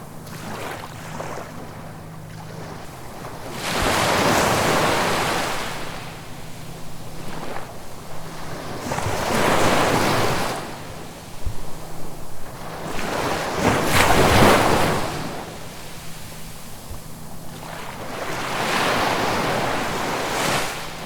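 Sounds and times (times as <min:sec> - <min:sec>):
sea waves crashing on shore: 0:00.0 - 0:21.0.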